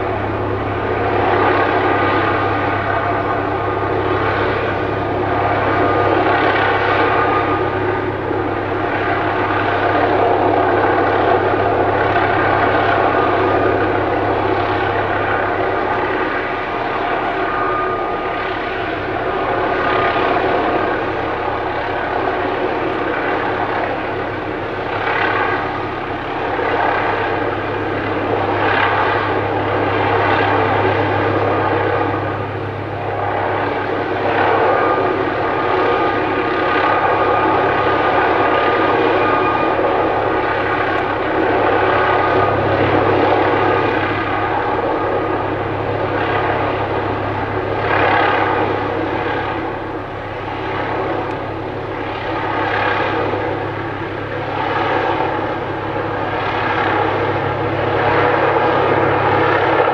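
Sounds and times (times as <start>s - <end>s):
helicopter flying overhead: 0.0s - 59.9s.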